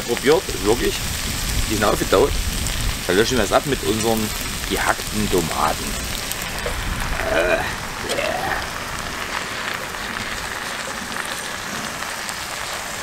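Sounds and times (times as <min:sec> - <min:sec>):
vegetables and sausage sizzling: 0:00.0 - 0:13.0.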